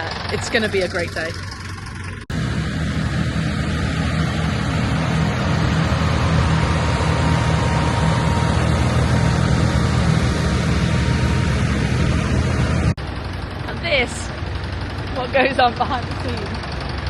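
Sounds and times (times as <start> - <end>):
diesel engines idling: 0.0 - 17.0.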